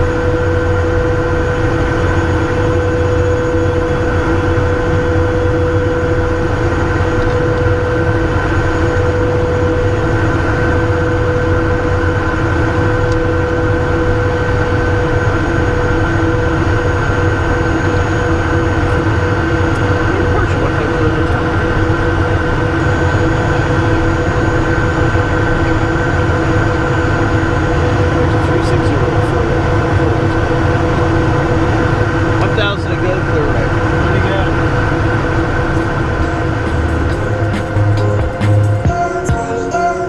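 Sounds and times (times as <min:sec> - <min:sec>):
jet cockpit rumble: 0:00.0 - 0:40.0
steady whining engine tones: 0:00.0 - 0:40.0.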